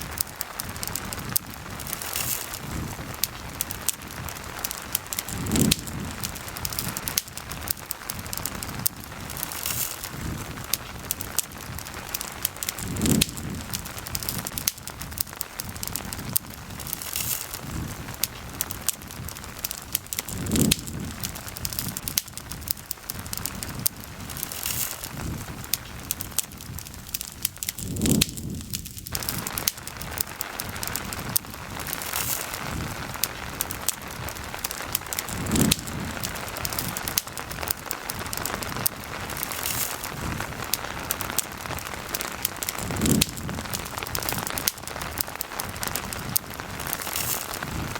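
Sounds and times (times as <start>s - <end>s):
campfire crackling: 0.0s - 47.9s
rain falling: 0.0s - 47.9s.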